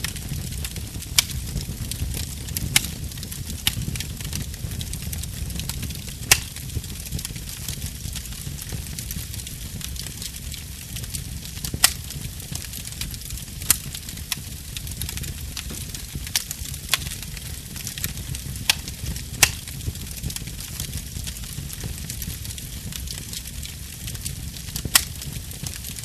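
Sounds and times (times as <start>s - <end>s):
fire crackling with pops: 0.0s - 26.0s
low rumble and hiss of flames: 0.0s - 26.0s.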